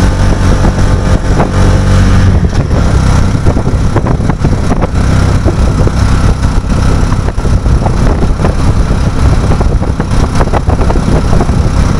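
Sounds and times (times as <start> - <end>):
vehicle engine and road rumble: 0.0 - 11.9.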